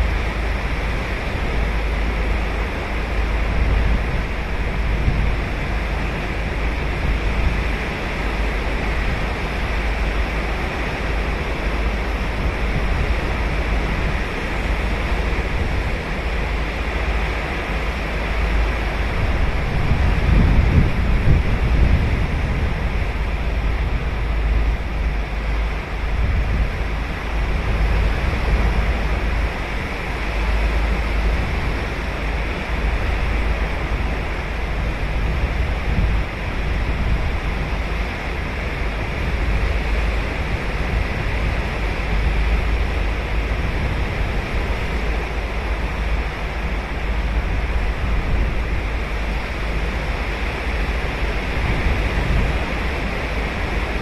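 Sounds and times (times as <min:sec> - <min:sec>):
deep continuous rumble: 0:00.0 - 0:54.0
ocean surf on beach: 0:00.0 - 0:54.0.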